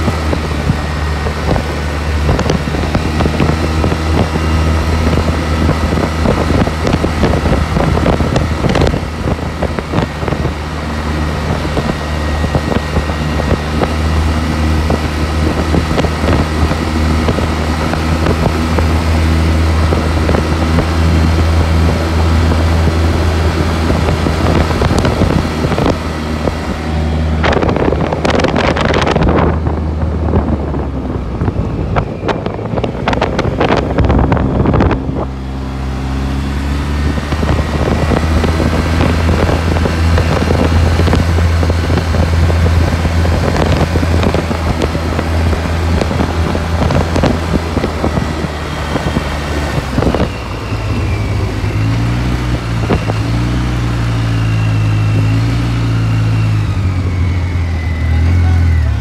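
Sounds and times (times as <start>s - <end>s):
off-road vehicle engine: 0.0s - 59.0s
wind noise on microphone: 0.0s - 59.0s.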